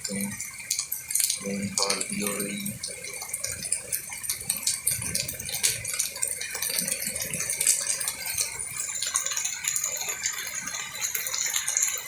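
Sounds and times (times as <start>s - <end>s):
heavy rain: 0.0s - 12.0s
hailstones hitting hard surfaces: 1.3s - 12.0s.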